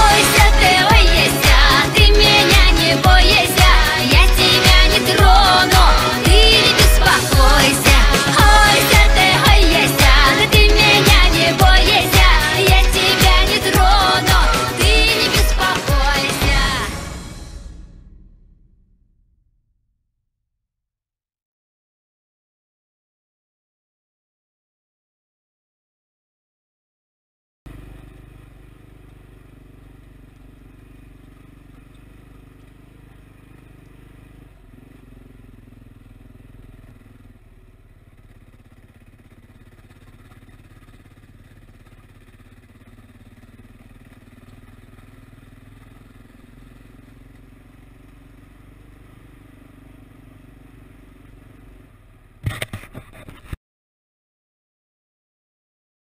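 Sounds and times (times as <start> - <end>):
motorcycle engine running: 0.0 - 19.9, 27.7 - 53.5.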